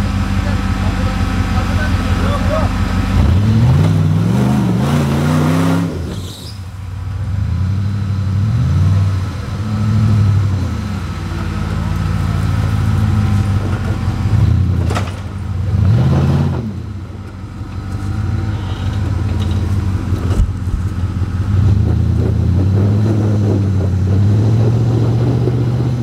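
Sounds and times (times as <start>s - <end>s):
engine revving in surges: 0.0s - 26.0s.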